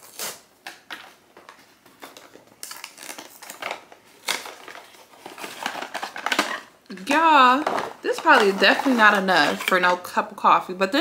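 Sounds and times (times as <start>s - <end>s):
packaging rustling and crinkling: 0.0s - 9.9s.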